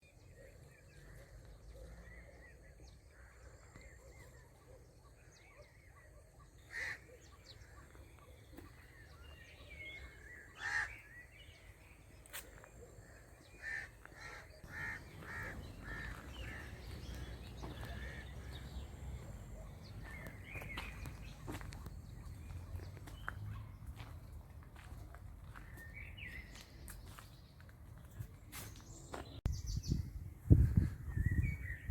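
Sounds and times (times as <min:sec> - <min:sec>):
birds calling: 0:00.4 - 0:29.4.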